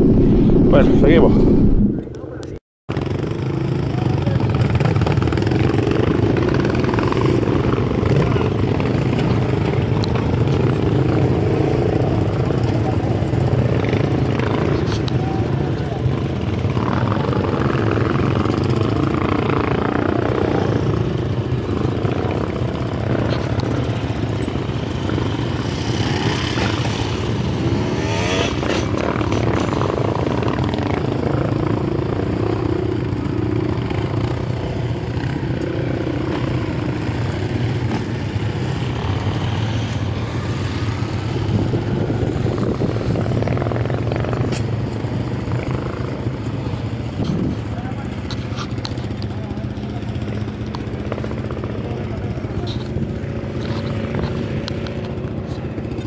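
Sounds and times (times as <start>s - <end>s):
distant quad bike engines: 0.0s - 56.0s.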